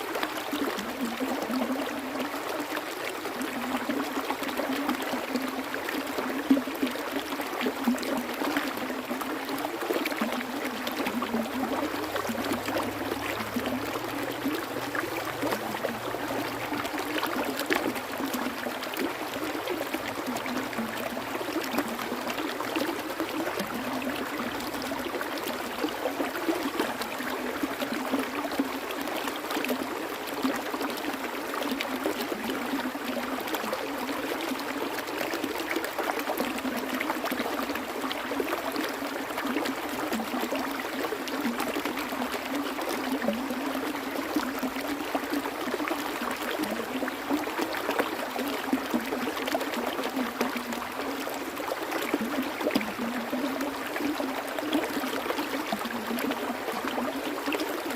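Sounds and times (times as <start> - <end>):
stream water flowing: 0.0 - 57.9.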